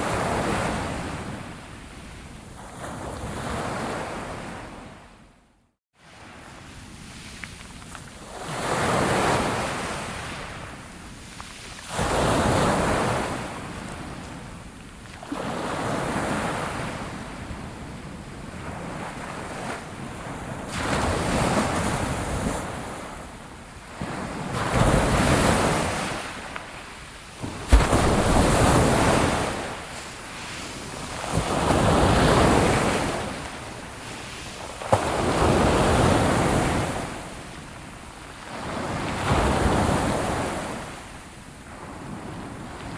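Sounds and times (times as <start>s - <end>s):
ocean waves breaking on shore: 0.0s - 4.9s, 6.0s - 42.9s.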